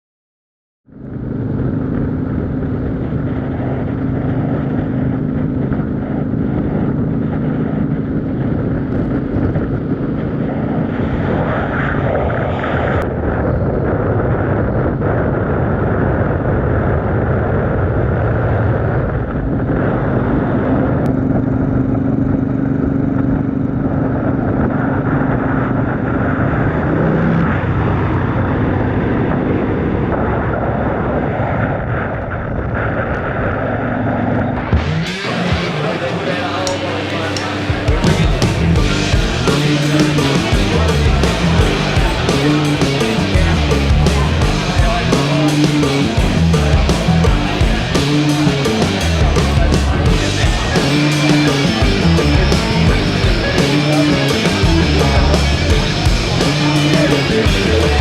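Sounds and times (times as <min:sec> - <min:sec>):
motorcycle engine cruising: 0:00.9 - 0:58.0.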